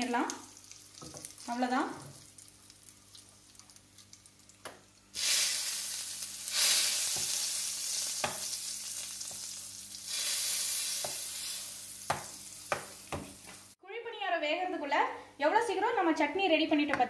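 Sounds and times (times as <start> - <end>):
hot oil sizzling: 0.0 - 13.8.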